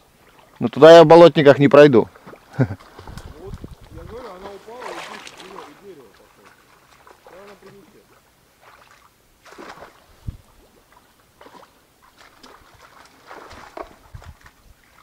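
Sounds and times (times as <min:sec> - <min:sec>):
wading through shallow water: 0:00.0 - 0:15.0.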